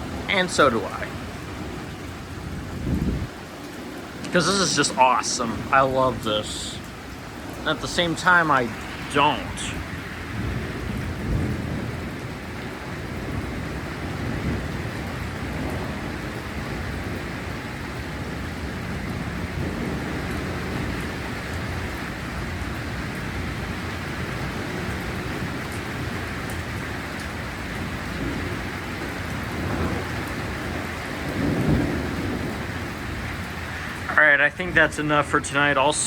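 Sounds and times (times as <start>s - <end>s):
heavy rain: 0.0s - 36.0s
thunder rumbling: 0.0s - 36.0s.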